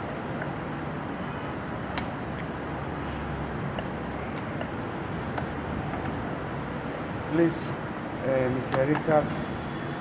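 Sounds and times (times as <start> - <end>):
workshop background noise: 0.0 - 9.7.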